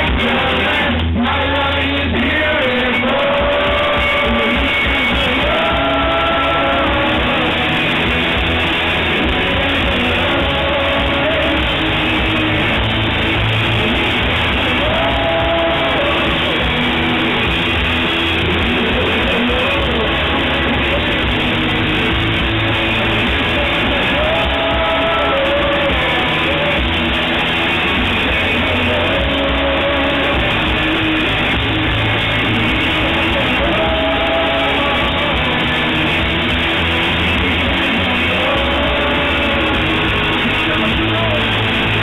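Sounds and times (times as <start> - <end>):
bass and drums: 0.0 - 42.0
strummed guitars: 0.0 - 42.0
voices singing: 0.0 - 42.0.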